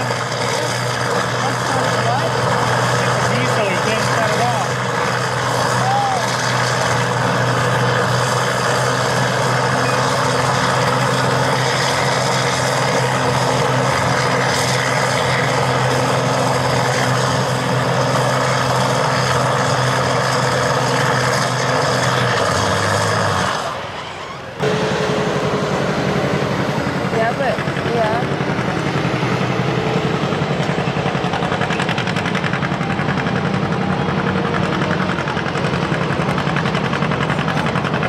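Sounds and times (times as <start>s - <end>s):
diesel engine running at high speed: 0.0s - 38.0s.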